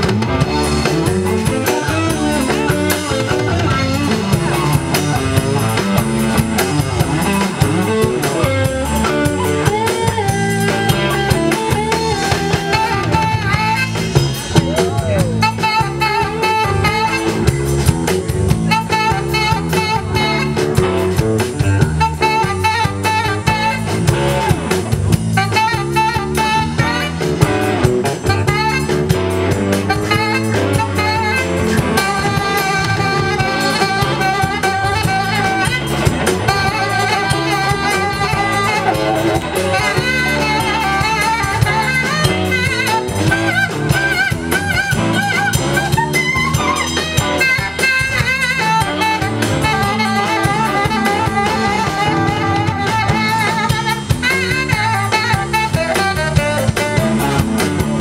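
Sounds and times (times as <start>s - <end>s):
blues band playing: 0.0s - 58.0s
saxophone solo: 0.0s - 58.0s.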